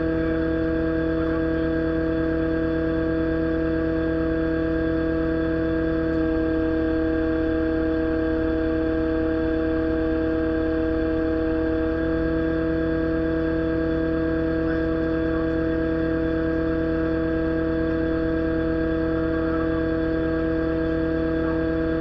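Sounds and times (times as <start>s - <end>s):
excavator engine drone: 0.0s - 22.0s.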